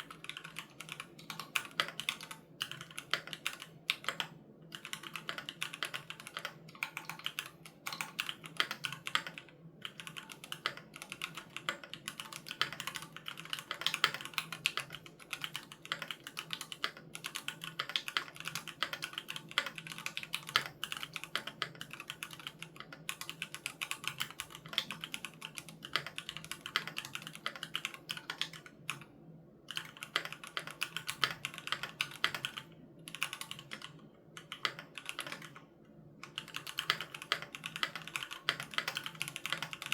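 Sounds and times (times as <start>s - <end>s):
mechanical keyboard typing: 0.0s - 29.1s, 29.7s - 39.9s.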